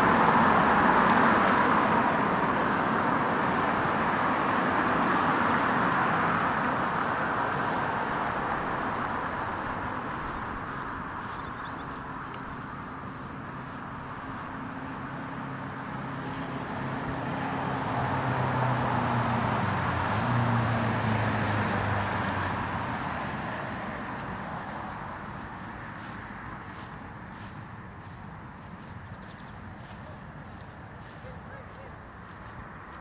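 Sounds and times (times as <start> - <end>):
road vehicle passing: 0.0 - 33.0.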